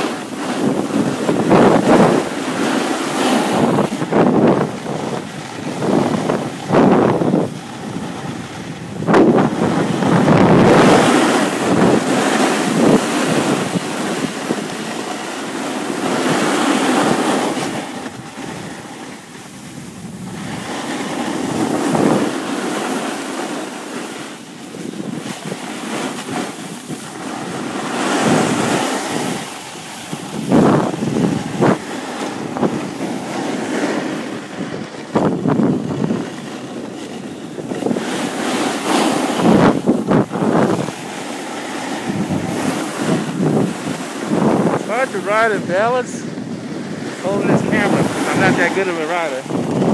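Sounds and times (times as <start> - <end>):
snowboard scraping on snow: 0.0 - 49.9
wind rushing over microphone: 0.0 - 49.9.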